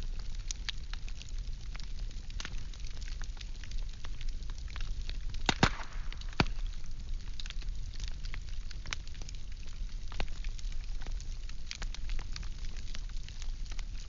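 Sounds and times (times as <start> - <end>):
firewood crackling and popping: 0.0 - 14.0
low rumble of flames: 0.0 - 14.0.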